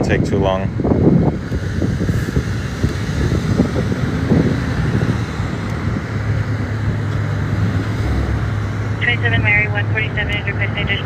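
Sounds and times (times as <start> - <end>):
wind on microphone: 0.0 - 9.6
traffic engine hum: 0.0 - 11.0.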